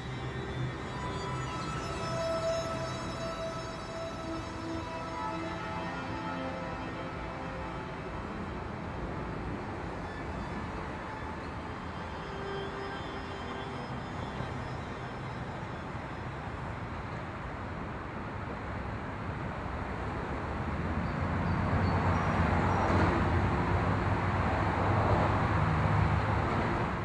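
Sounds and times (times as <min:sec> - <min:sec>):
steady rushing background noise: 0:00.0 - 0:27.0.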